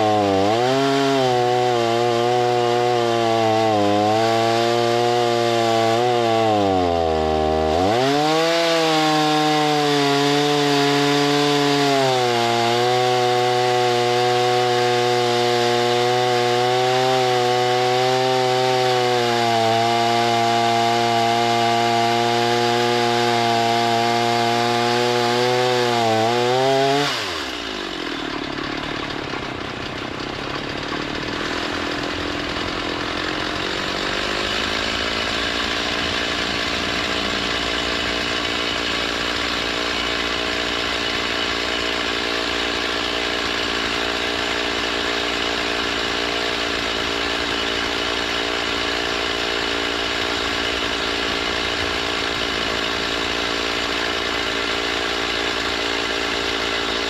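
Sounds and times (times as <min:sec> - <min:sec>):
gas-engine saw milling lumber: 0:00.0 - 0:57.0.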